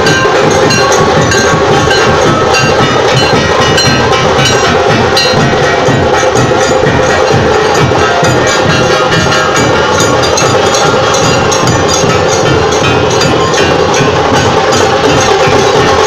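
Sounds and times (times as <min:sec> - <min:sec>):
drumming: 0:00.0 - 0:16.0
metallic clanging: 0:00.0 - 0:16.0.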